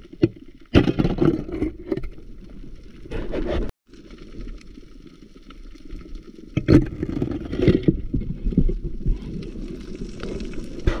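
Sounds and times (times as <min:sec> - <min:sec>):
muffled underwater water noise: 0:00.0 - 0:11.0.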